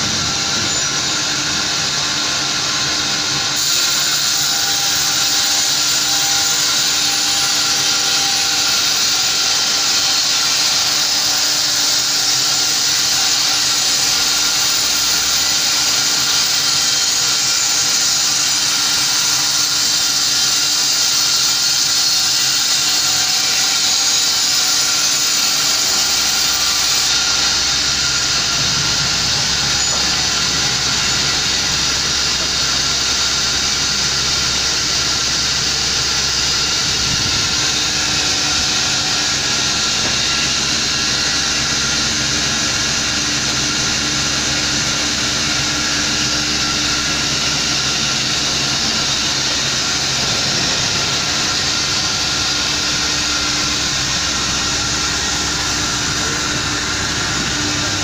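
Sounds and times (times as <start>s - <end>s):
sawmill blower high hiss: 0.0s - 58.0s.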